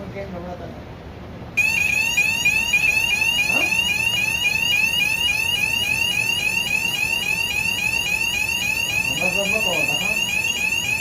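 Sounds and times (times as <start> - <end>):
fire alarm sweeping tone: 1.6 - 11.0.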